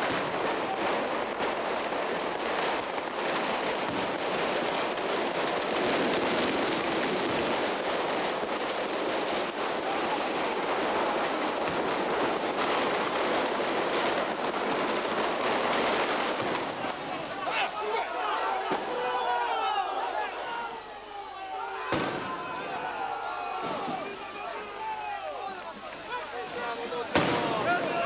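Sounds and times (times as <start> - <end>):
firecrackers crackling: 0.0 - 28.0.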